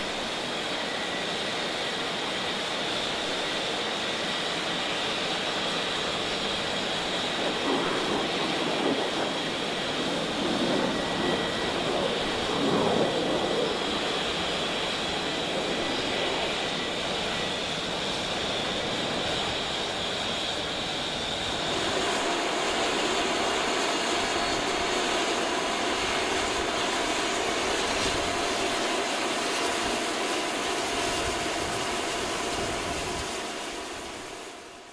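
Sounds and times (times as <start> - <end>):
turbofan engines whining: 0.0 - 34.9
turboprop engine whine: 0.0 - 34.9.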